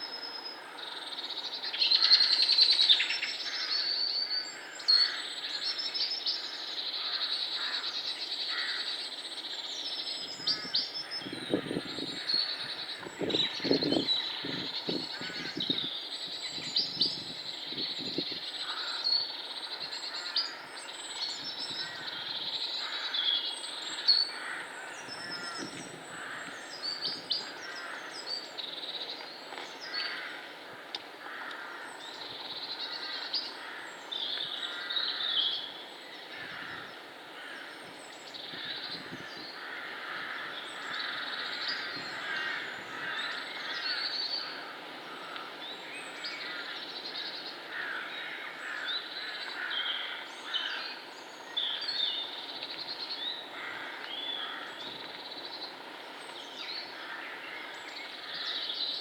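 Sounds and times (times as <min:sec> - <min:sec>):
woodland birds singing: 0:00.0 - 0:59.0.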